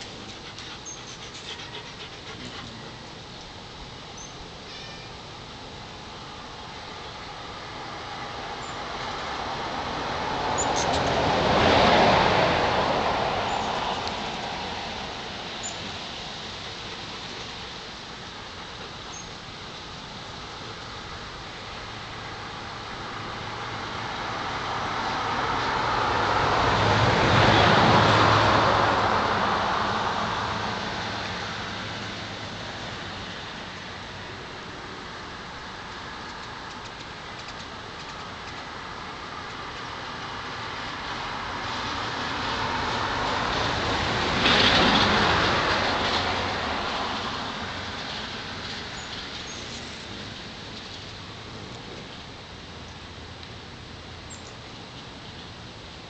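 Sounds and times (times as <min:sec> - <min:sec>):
vehicle passing by: 0:00.0 - 0:03.3, 0:07.4 - 0:18.0, 0:21.4 - 0:54.8.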